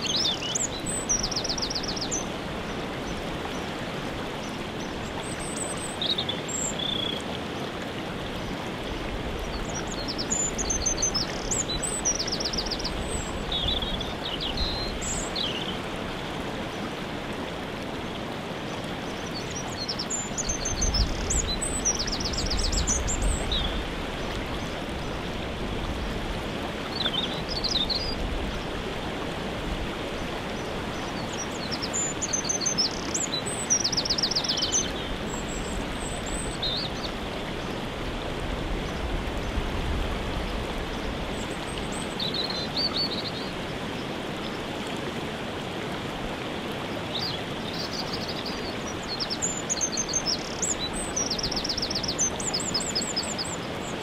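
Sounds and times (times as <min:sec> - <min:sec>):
songbirds singing: 0:00.0 - 0:17.0, 0:18.0 - 0:28.9, 0:29.7 - 0:38.0, 0:38.7 - 0:44.8, 0:46.8 - 0:54.0
waterfall rushing: 0:00.0 - 0:54.0.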